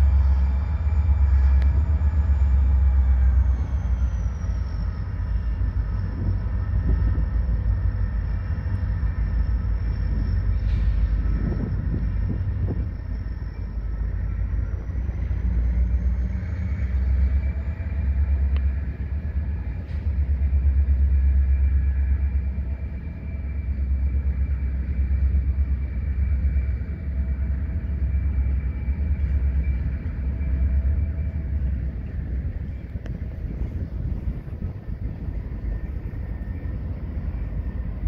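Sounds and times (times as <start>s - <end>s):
freight train rumbling on tracks: 0.0s - 38.0s.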